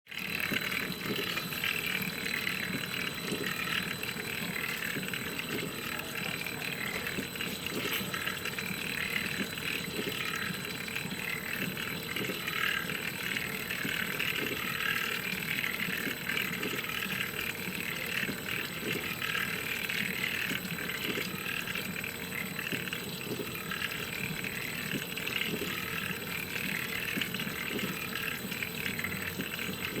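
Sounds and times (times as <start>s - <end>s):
electric motor whirring: 0.1s - 30.0s
faint irregular ticks: 0.1s - 30.0s.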